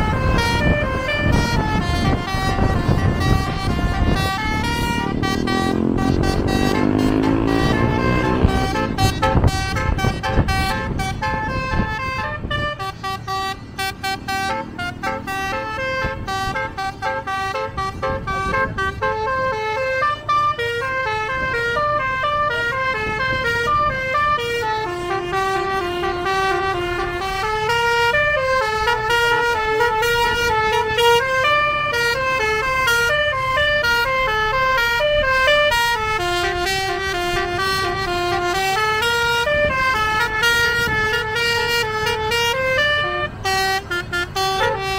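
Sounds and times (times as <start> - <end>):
air horn playing melody: 0.0 - 44.9
engine and road rumble: 0.0 - 44.9.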